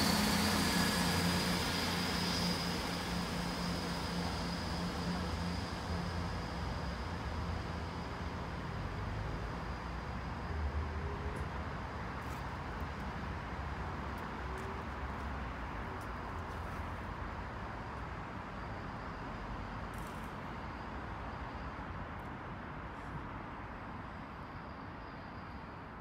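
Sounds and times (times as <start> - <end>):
diesel train engine rumble: 0.0 - 23.2.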